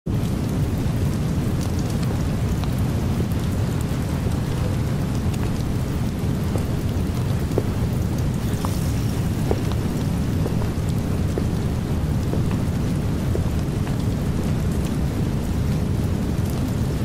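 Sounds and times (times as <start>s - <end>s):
low thunder rumble: 0.1s - 17.0s
rain: 0.1s - 17.0s.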